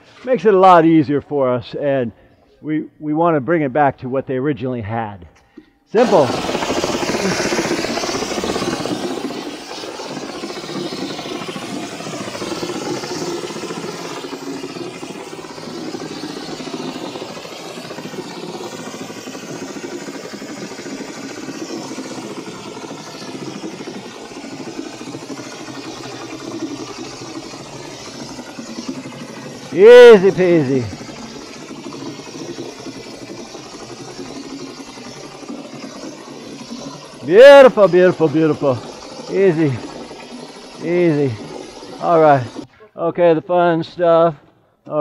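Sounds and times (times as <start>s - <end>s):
spray gun hissing compressed air: 6.0s - 42.7s
engine-like hum: 6.0s - 44.0s.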